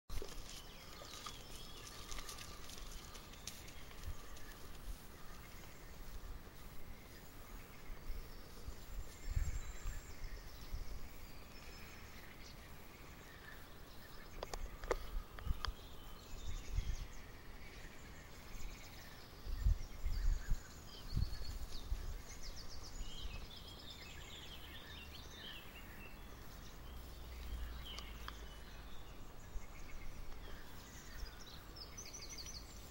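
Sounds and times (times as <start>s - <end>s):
small birds chirping: 0.1s - 32.9s.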